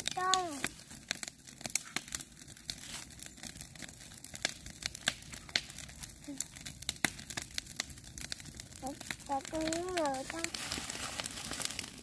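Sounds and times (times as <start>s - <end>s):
dry grass rustling: 0.0s - 4.2s, 4.8s - 12.0s.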